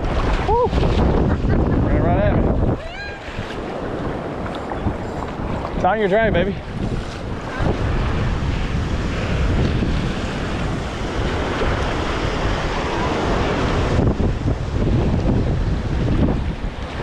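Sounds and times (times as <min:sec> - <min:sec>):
surf waves washing on sand: 0:00.0 - 0:17.0
wind buffeting microphone: 0:00.0 - 0:17.0.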